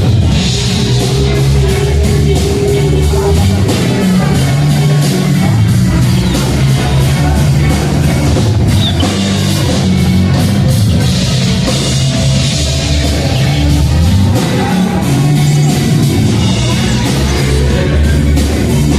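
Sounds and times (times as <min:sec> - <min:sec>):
loud rock music: 0:00.0 - 0:18.9.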